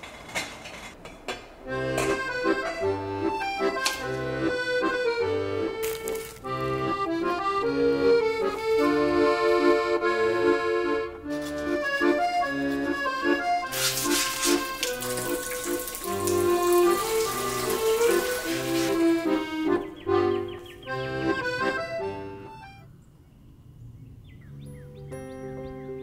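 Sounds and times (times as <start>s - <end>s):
instrumental background music: 1.7s - 22.8s, 24.6s - 26.0s.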